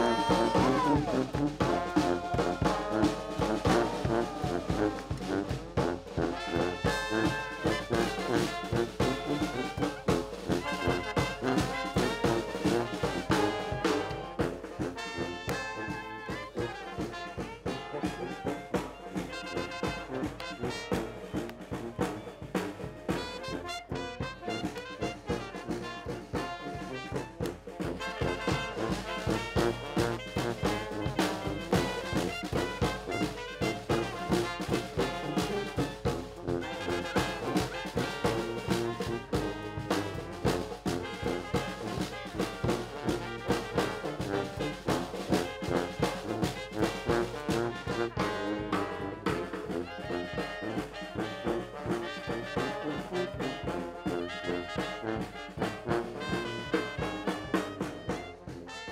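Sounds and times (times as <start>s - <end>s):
marching bass drum beat: 0.0s - 58.7s
brass band playing: 0.0s - 58.9s.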